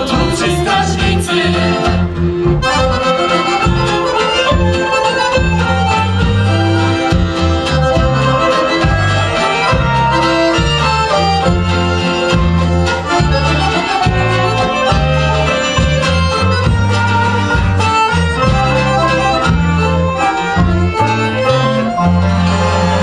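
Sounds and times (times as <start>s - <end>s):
accordion: 0.0s - 23.0s
bass line on a steady beat: 0.0s - 23.0s.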